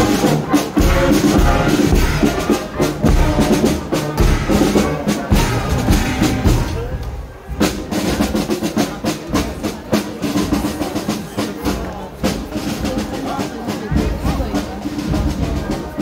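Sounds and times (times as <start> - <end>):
marching band with drums: 0.0 - 16.0.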